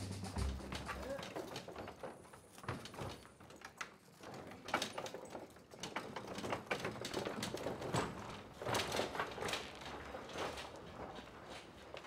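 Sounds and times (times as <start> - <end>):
wooden cart clattering: 0.0 - 12.0.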